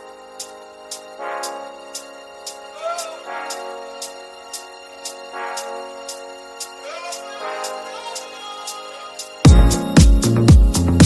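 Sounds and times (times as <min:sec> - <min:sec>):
electronic dance-pop music: 0:00.0 - 0:11.0.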